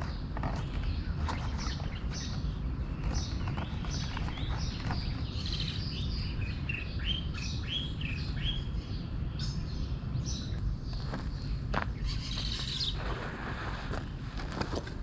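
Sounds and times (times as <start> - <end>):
small songbirds chirping: 0.0 - 15.0
steady low rumble: 0.0 - 15.0.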